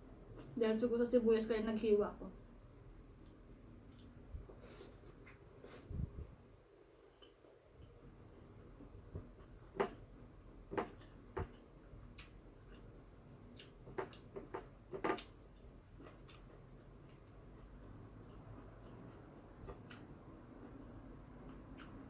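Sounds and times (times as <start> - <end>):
electric fan hiss: 0.0 - 22.0.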